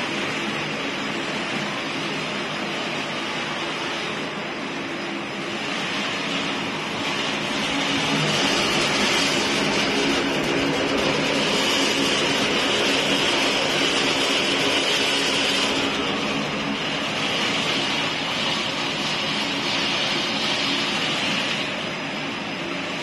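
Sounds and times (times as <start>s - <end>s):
machine noise with hum and hiss: 0.0s - 23.0s.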